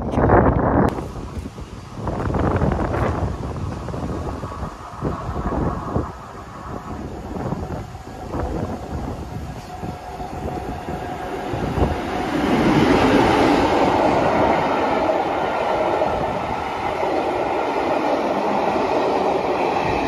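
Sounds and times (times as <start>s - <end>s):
coaches rolling on rails: 0.0s - 20.0s
diesel locomotive passing: 0.9s - 20.0s.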